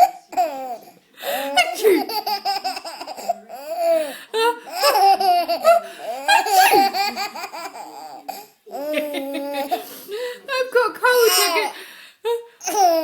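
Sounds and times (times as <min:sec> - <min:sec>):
baby giggling: 0:00.0 - 0:09.9, 0:11.3 - 0:11.8, 0:12.6 - 0:13.0.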